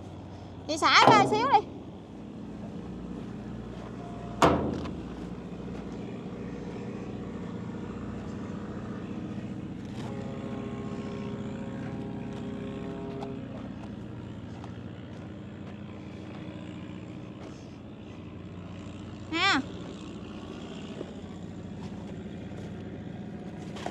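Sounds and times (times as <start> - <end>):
boat engine humming: 0.0 - 23.9.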